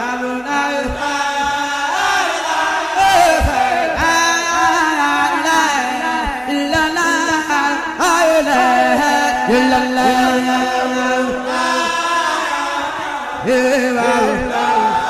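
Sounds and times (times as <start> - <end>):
person chanting: 0.0 - 15.0.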